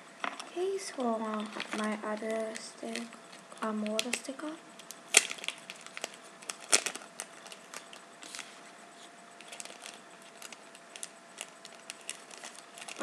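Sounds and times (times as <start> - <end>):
plastic packaging crinkling: 0.2 - 13.0.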